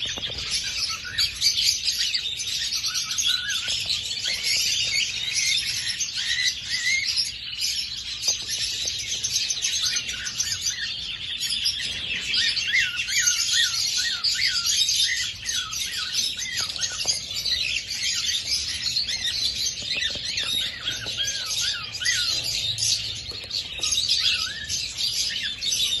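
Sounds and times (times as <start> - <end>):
cockatiels chirping and chattering: 0.0 - 26.0.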